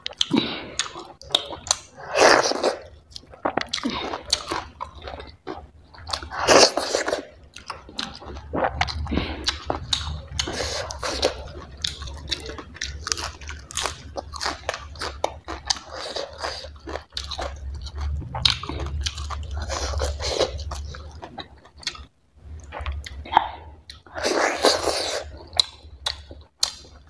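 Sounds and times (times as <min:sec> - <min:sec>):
chewing crunchy food: 0:00.0 - 0:27.0
low steady hum: 0:00.0 - 0:27.0.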